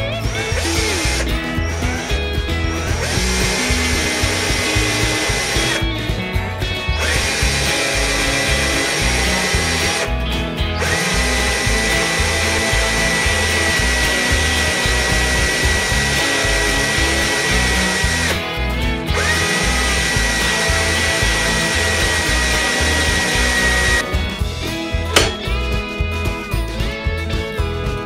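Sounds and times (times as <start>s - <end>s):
electric drill whining: 0.0s - 24.4s
background music with a beat: 0.0s - 28.0s.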